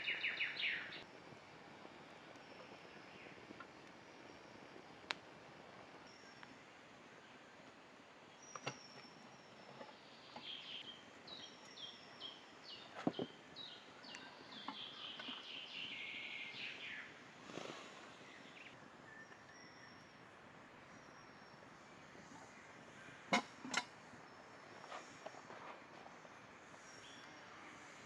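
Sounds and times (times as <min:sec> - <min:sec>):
songbird chirping: 0:00.0 - 0:01.1, 0:02.3 - 0:05.2, 0:06.0 - 0:28.0.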